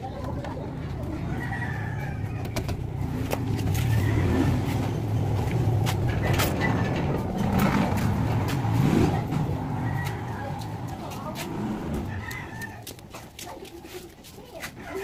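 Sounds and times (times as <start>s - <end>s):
vehicle engine rumbling: 0.0s - 14.6s.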